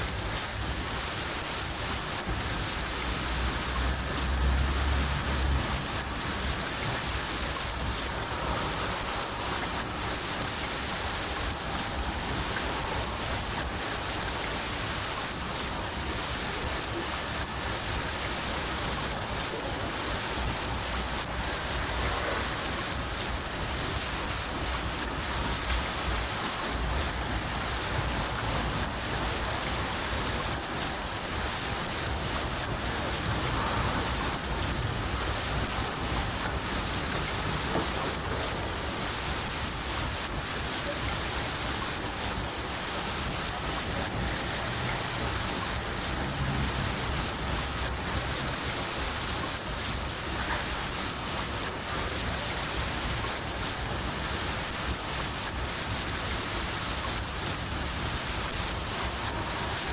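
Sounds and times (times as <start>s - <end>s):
cricket chirping: 0.0s - 59.9s
rain hissing: 0.0s - 59.9s.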